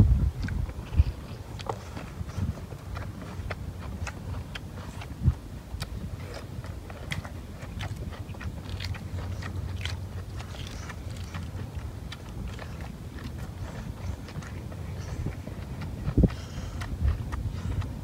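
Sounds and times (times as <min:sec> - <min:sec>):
biting and chewing: 0:00.0 - 0:18.0.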